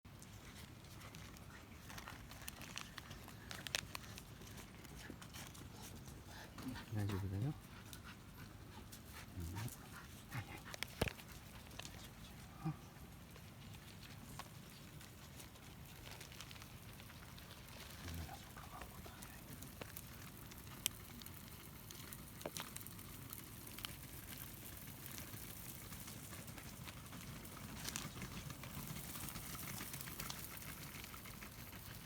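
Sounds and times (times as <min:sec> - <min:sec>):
cat chewing food: 0:00.1 - 0:32.0.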